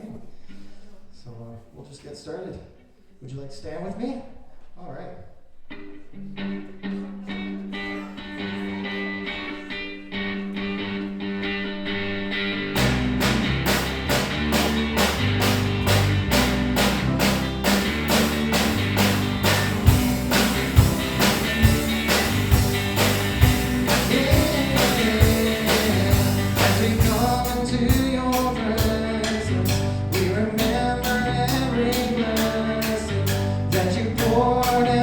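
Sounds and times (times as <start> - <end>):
worship band music: 6.6 - 35.0.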